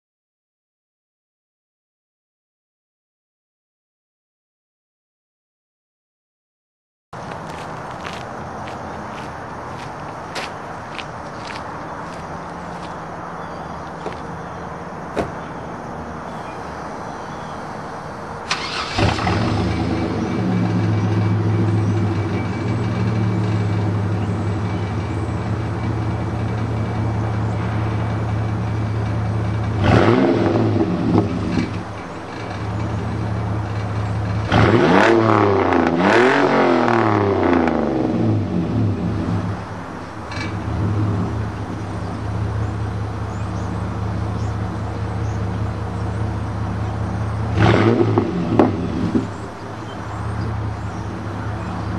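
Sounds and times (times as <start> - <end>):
truck engine idling and revving: 7.2 - 51.9.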